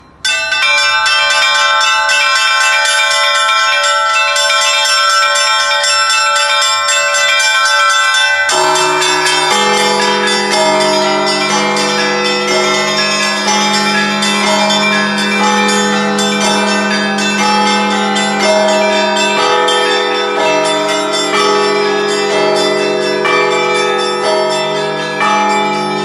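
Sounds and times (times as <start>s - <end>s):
deep large church bells: 0.0s - 26.0s
small high church bells: 0.0s - 26.0s.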